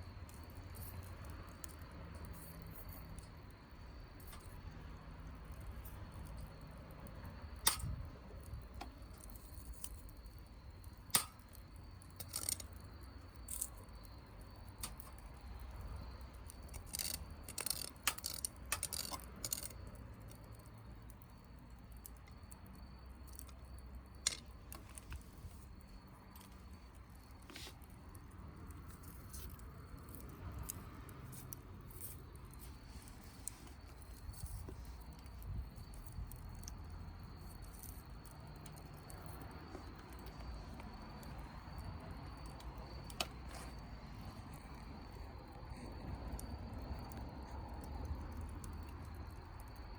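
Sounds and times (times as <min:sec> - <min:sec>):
campfire wood crackling: 0:00.0 - 0:49.9.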